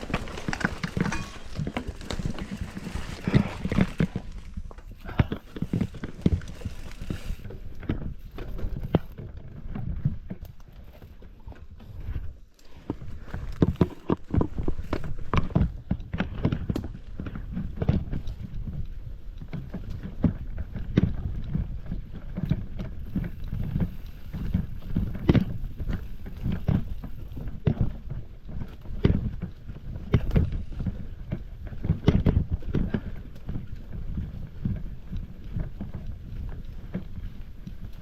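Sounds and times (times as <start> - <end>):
bike knocks and rattles: 0.0 - 38.0.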